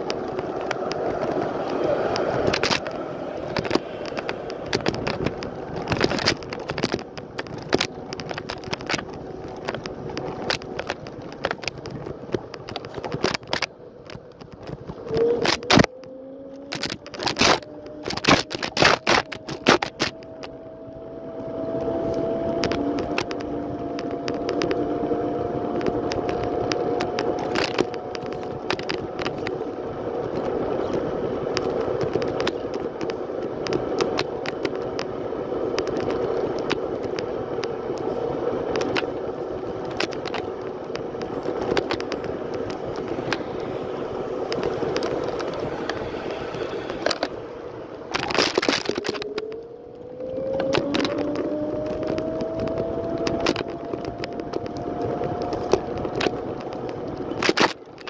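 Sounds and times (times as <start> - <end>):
scooter frame rattling: 0.0 - 58.0.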